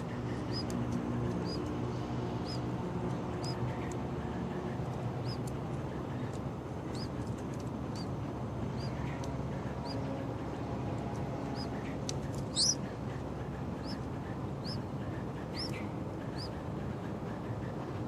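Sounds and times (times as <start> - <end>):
nestlings chirping: 0.0 - 18.0.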